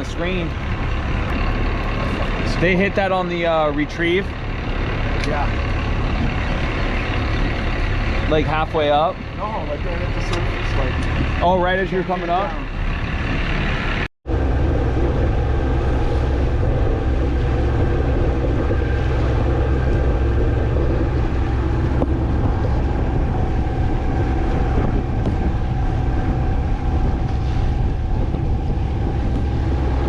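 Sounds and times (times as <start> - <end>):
boat engine rumbling: 0.0 - 30.0
wind on microphone: 0.0 - 30.0.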